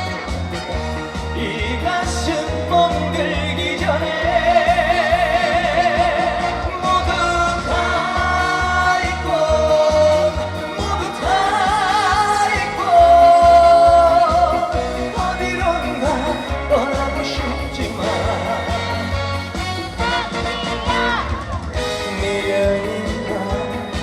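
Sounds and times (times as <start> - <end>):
backing track with low beat: 0.0 - 24.0
person singing with vibrato: 0.0 - 24.0.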